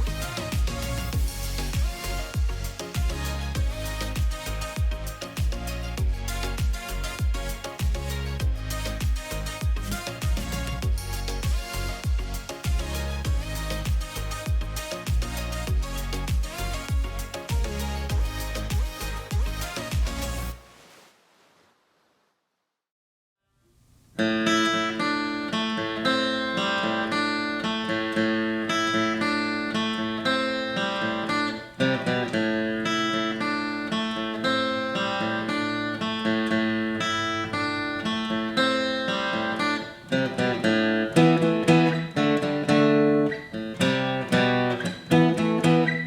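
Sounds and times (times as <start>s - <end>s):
acoustic guitar playing: 0.0s - 20.6s, 24.2s - 46.0s.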